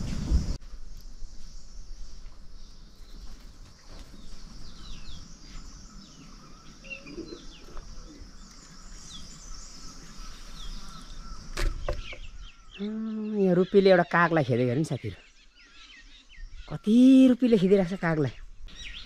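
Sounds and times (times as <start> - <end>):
birds chirping: 0.0 - 19.0
outdoor background hiss: 0.0 - 19.0.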